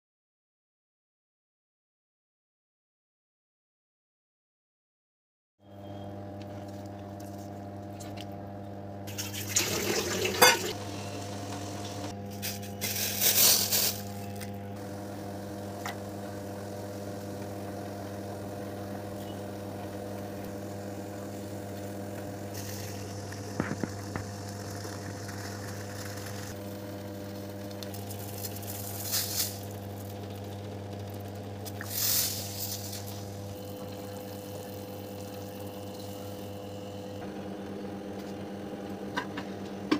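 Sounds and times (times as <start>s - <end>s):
low electrical hum: 5.8s - 39.8s.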